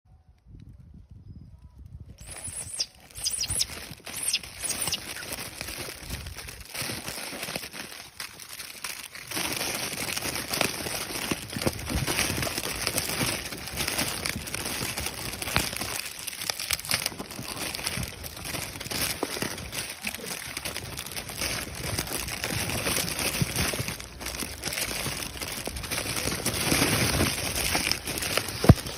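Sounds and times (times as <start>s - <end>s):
crinkling and crackling clicks: 2.2s - 28.9s.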